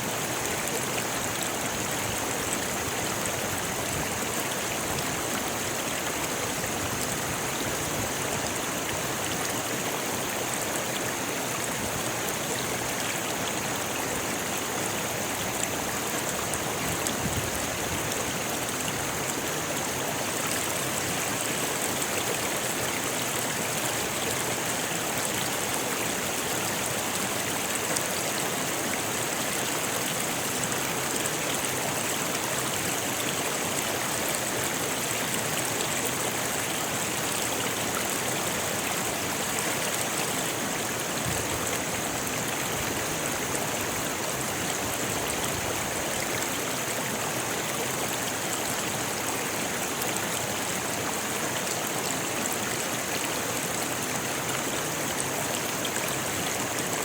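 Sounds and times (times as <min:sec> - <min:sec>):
water rushing over stones: 0:00.0 - 0:57.0.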